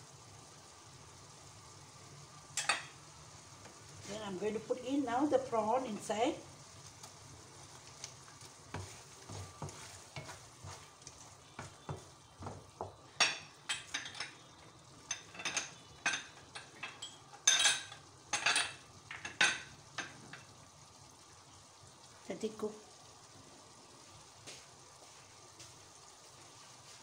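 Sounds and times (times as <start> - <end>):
sauce sizzling: 0.0 - 27.0.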